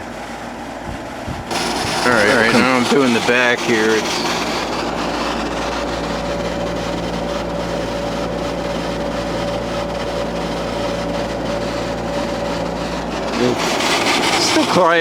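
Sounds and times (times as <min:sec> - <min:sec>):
air conditioner hum and whir: 0:00.0 - 0:15.0
faint steady whine: 0:00.0 - 0:15.0.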